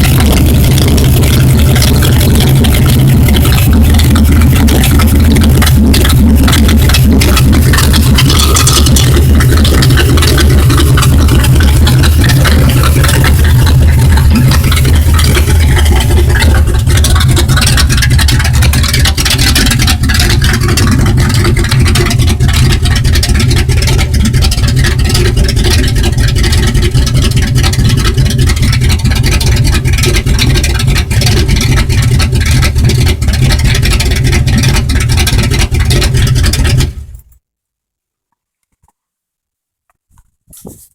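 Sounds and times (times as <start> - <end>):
car engine running: 0.0 - 37.4.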